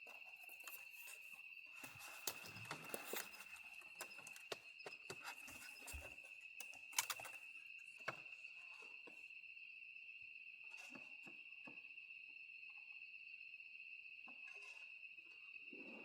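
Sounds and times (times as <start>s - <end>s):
crickets singing: 0.0s - 16.0s.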